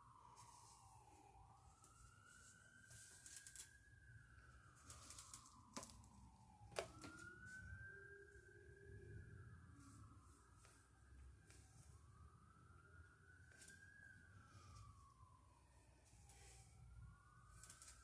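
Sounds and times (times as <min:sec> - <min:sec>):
fire truck siren wailing: 0:00.0 - 0:18.0.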